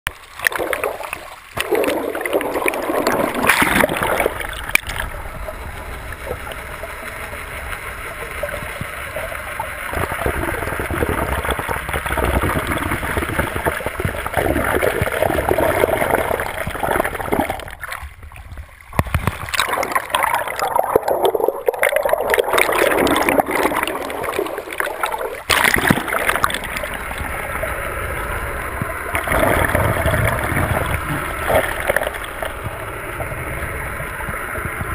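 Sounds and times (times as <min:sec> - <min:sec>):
water rushing and gurgling: 0:00.1 - 0:34.9
water splashing: 0:00.1 - 0:34.9.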